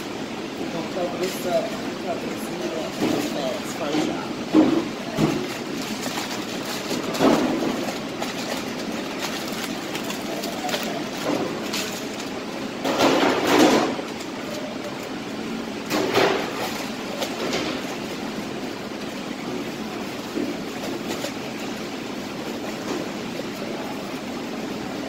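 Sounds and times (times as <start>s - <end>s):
kitchen machine noise: 0.0s - 25.0s.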